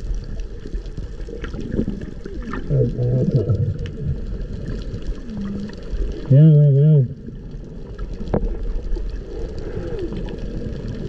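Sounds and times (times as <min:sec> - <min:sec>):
underwater bubbling and gurgling: 0:00.0 - 0:11.0.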